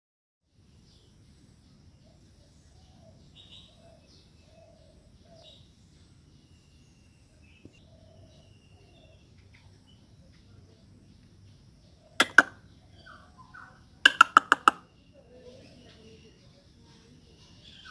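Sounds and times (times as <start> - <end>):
birds chirping and whistling: 2.0 - 10.4, 11.2 - 17.9.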